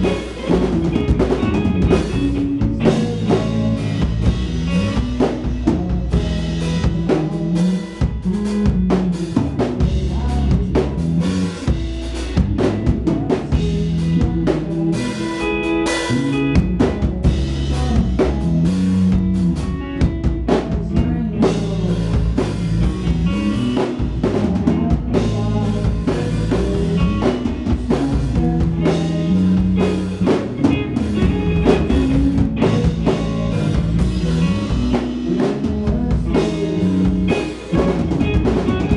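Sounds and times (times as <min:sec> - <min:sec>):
drum kit: 0:00.0 - 0:38.9
electric guitar: 0:00.0 - 0:38.9.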